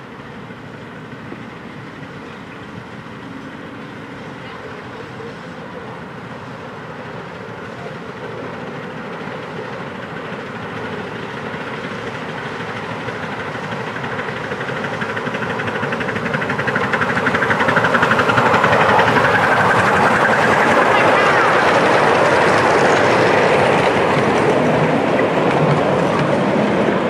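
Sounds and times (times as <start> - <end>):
miniature steam train running: 0.0 - 27.0.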